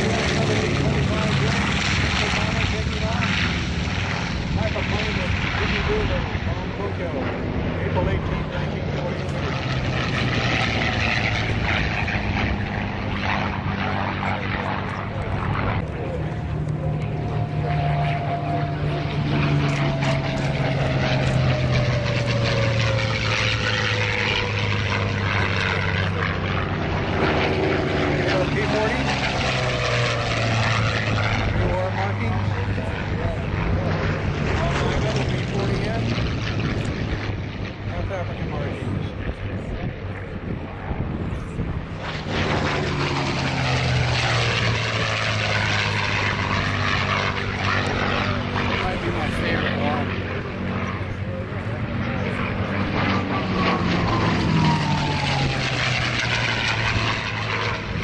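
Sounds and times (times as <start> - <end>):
propeller plane flying past: 0.0 - 58.0.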